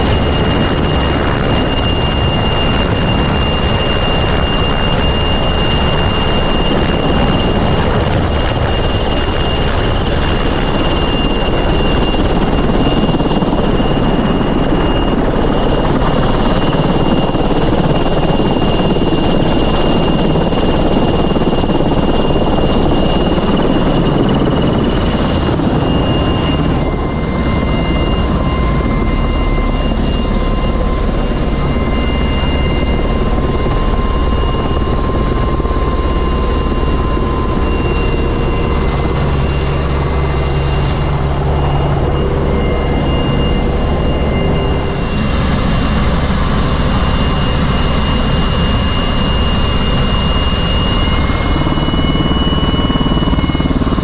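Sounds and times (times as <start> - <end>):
helicopter rotor and engines: 0.0 - 54.0
high turbine whine: 0.0 - 54.0.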